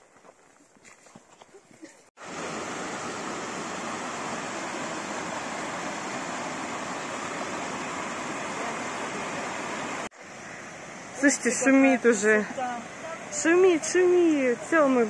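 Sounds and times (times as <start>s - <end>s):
stream rushing over rocks: 2.2s - 15.0s.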